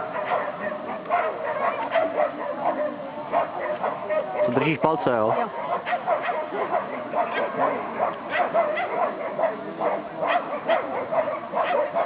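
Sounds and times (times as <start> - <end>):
dog yipping and barking: 0.0 - 4.6, 5.3 - 12.0.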